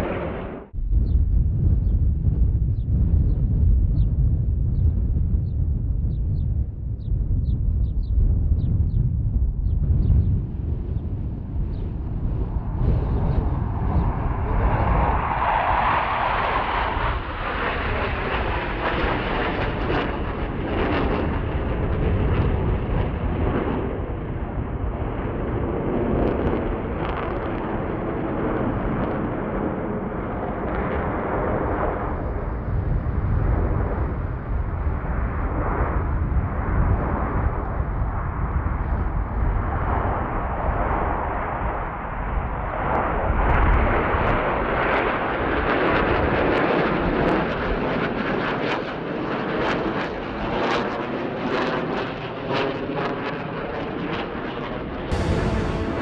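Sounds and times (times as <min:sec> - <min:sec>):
jet engines flying over: 0:00.0 - 0:56.0.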